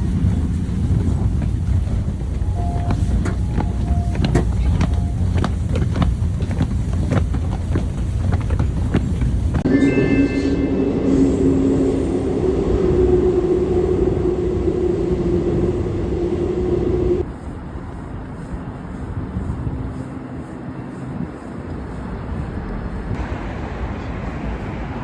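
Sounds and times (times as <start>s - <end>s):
subway train running: 0.0s - 25.0s.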